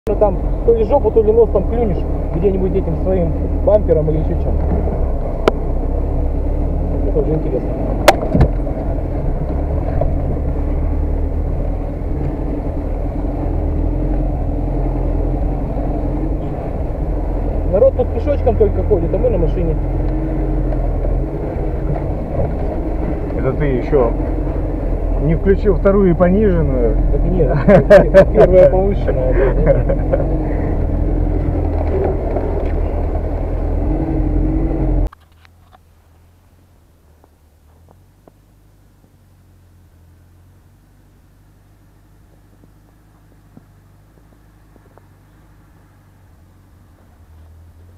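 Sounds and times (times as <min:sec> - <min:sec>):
vehicle rumbling over ruts: 0:00.0 - 0:47.9
vehicle engine running: 0:00.1 - 0:47.9.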